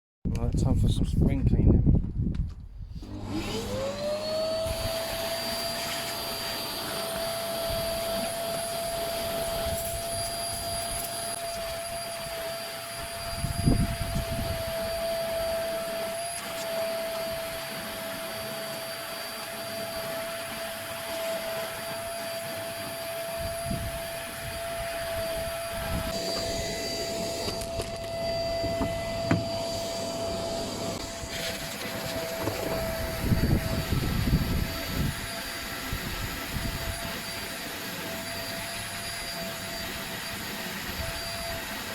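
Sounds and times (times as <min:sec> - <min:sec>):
vacuum cleaner motor whine: 0:03.0 - 0:41.9.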